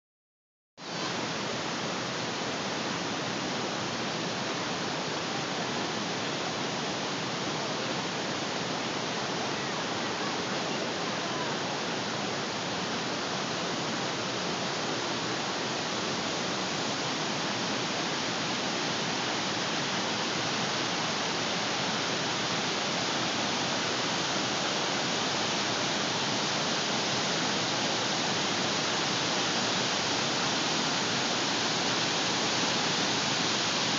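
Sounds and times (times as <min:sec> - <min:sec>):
whitewater rushing through gorge: 0:00.8 - 0:33.9.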